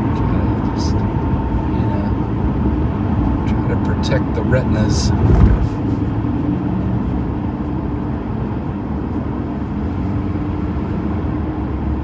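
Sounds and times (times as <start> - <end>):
car engine hum: 0.0 - 11.0
car road noise: 0.0 - 11.0.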